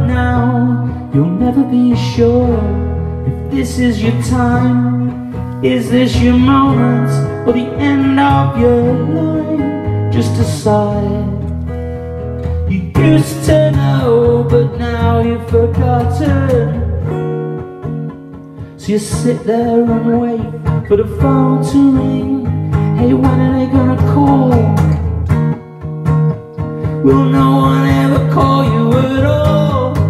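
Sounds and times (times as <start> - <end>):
man singing: 0.0 - 11.6, 12.5 - 17.2, 18.6 - 25.0, 27.0 - 30.0
acoustic guitar strumming: 0.0 - 30.0.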